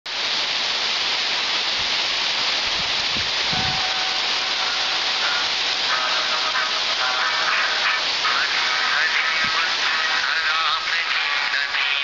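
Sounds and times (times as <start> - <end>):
streams cascading down rocks: 0.1 - 12.0.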